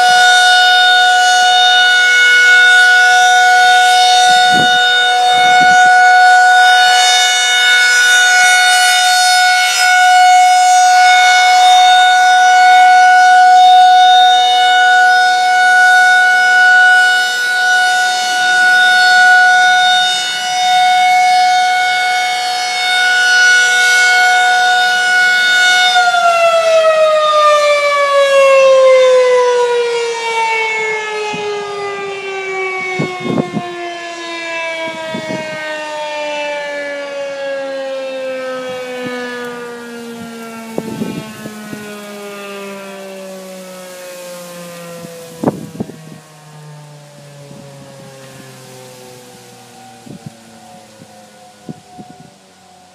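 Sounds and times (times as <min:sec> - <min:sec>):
mechanical siren steady tone: 0:00.0 - 0:52.9.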